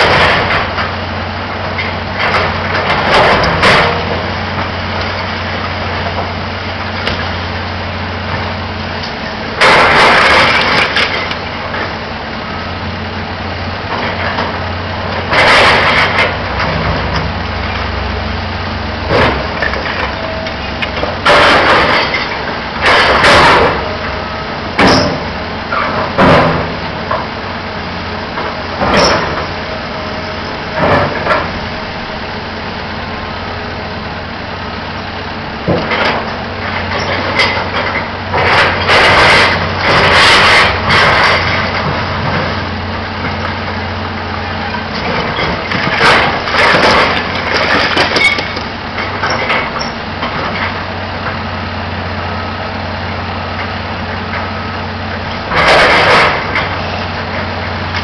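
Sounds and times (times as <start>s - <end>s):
crashing and scraping rubble: 0.0s - 12.1s, 13.8s - 18.0s, 18.6s - 34.8s, 35.6s - 51.4s, 53.6s - 58.0s
excavator diesel engine humming: 0.0s - 58.0s.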